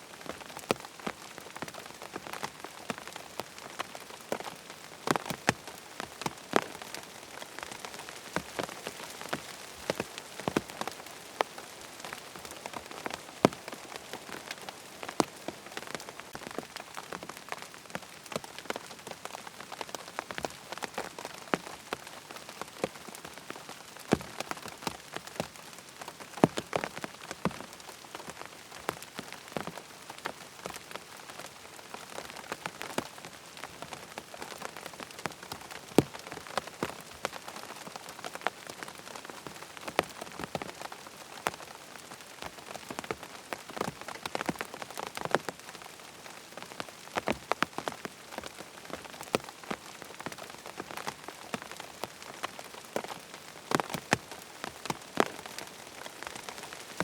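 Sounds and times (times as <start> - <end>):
rain pattering on tent fabric: 0.0 - 57.0.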